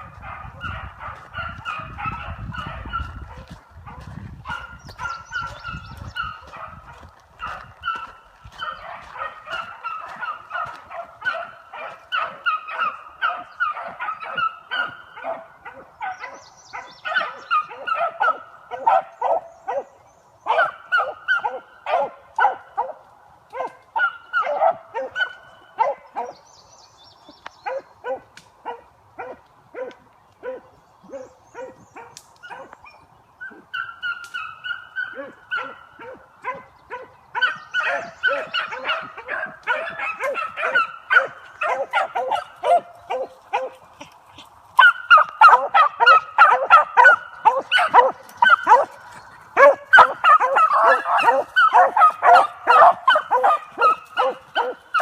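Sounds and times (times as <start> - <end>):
dogs baying and barking: 0.0 - 26.5, 27.6 - 55.0.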